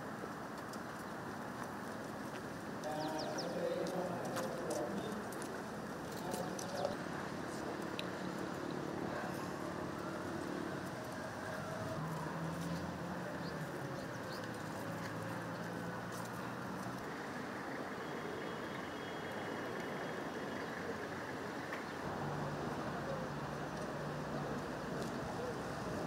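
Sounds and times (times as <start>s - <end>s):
outdoor background noise: 0.0s - 26.0s
vehicle engines idling: 0.0s - 26.0s.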